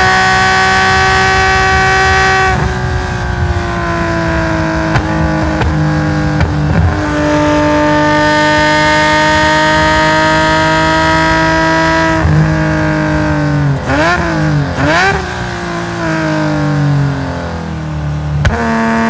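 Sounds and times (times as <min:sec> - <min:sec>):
racing car engine revving: 0:00.0 - 0:19.0
exhaust cracks: 0:00.2 - 0:09.4, 0:10.7 - 0:19.0.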